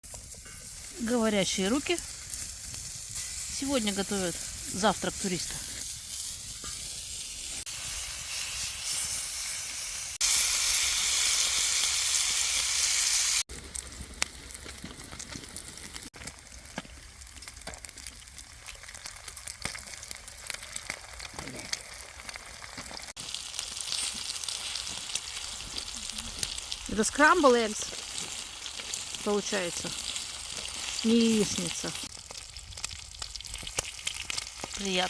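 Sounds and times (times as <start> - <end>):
eggs sizzling in a pan: 0.1 - 35.0.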